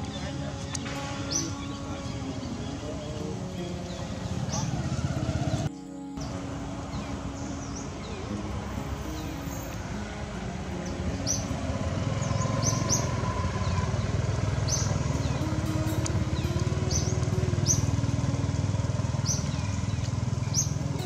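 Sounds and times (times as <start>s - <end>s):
motor running: 0.0s - 21.0s.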